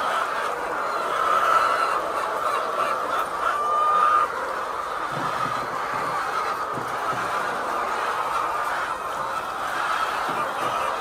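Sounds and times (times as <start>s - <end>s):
chickens calling: 0.0s - 11.0s
drawn-out chicken call: 0.0s - 11.0s.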